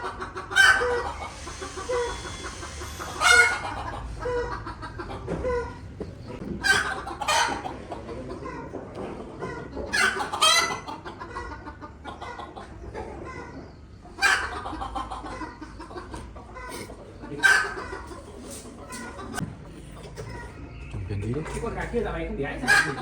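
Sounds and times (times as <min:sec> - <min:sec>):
loud chicken calls: 0:00.0 - 0:08.7, 0:09.4 - 0:20.8, 0:22.6 - 0:23.0
chickens clucking: 0:00.0 - 0:23.0.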